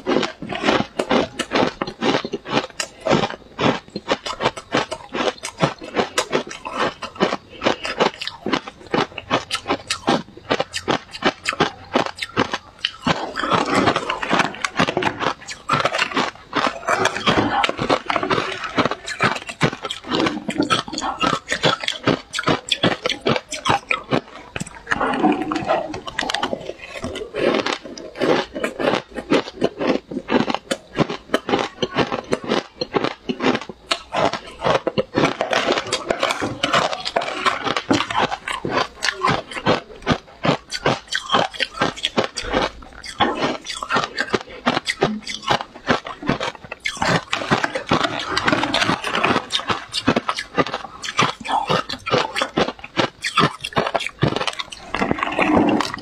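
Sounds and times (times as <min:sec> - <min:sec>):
crushed ice being chewed: 0:00.0 - 0:56.0.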